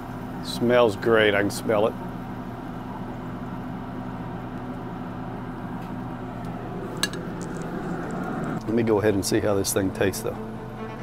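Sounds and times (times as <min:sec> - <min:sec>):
smoker fan humming: 0:00.0 - 0:11.0.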